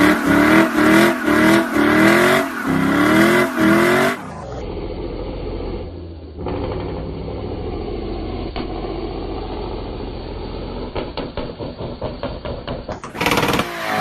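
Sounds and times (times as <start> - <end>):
vehicle engine running: 0.0 - 12.5.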